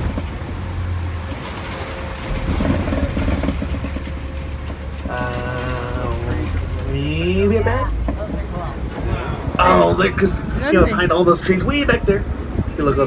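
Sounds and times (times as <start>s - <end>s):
rumbling road noise: 0.0s - 13.0s
truck engine humming: 0.0s - 13.0s.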